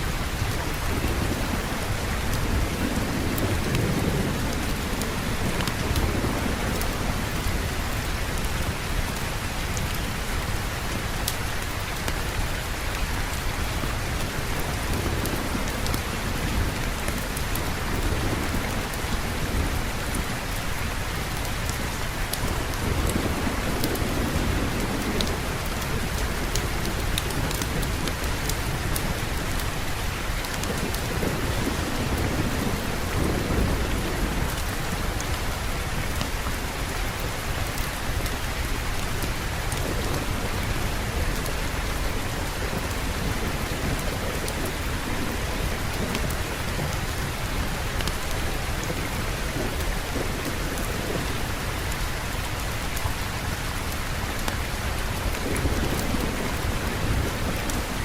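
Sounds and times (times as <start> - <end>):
low rolling thunder: 0.0 - 9.0, 14.2 - 58.0
heavy rain: 0.0 - 58.0.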